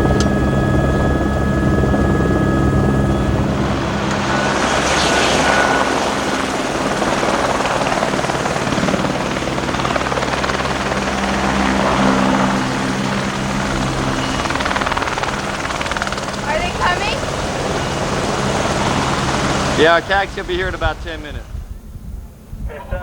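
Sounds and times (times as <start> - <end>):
helicopter engine and rotor: 0.0 - 23.0.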